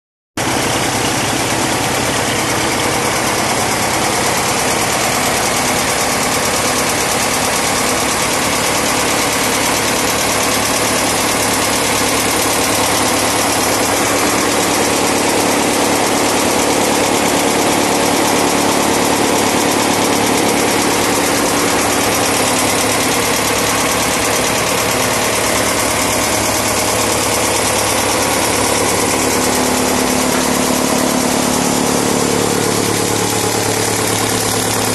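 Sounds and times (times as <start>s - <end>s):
tractor engine idling: 0.4s - 34.9s.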